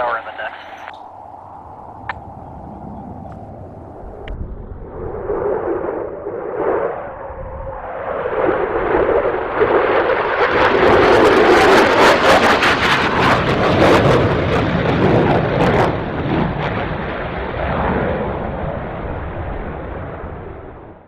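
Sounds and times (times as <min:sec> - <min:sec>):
jet engines roaring on a pass: 0:00.0 - 0:21.0.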